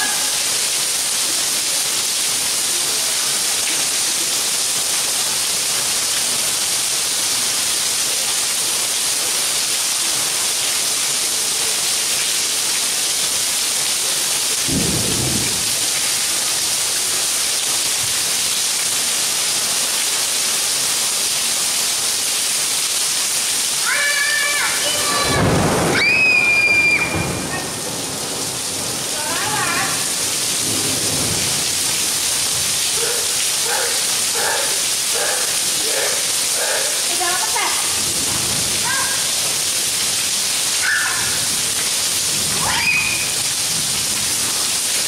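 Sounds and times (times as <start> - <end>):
rain on pavement: 0.0 - 45.0.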